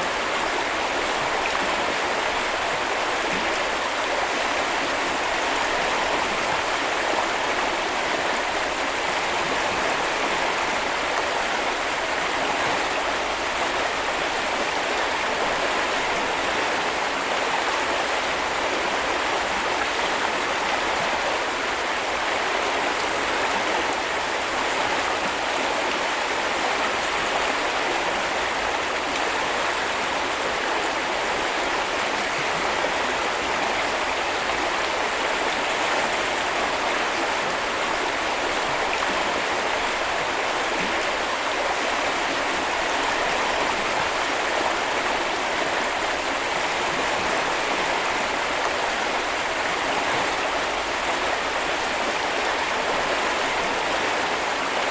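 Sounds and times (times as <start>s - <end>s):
river water flowing and splashing: 0.0s - 54.9s.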